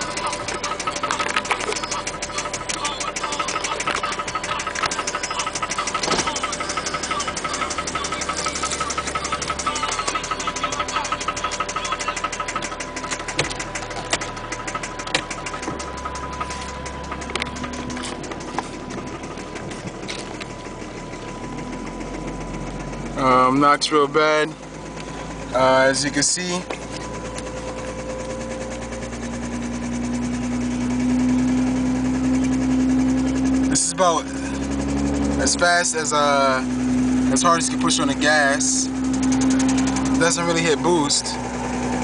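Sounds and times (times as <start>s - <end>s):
engine knocking: 0.0s - 42.0s.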